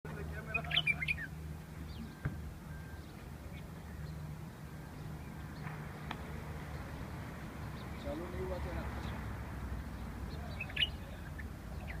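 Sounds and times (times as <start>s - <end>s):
bird chirps: 0.4s - 9.2s, 9.8s - 12.0s.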